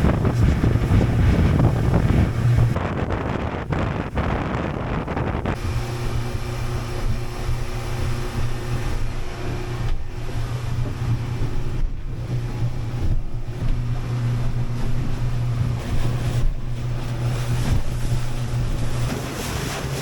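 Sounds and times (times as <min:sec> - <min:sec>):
outboard motor hum: 0:00.0 - 0:20.0
water rushing past boat: 0:00.0 - 0:20.0
wind buffeting microphone: 0:00.0 - 0:20.0.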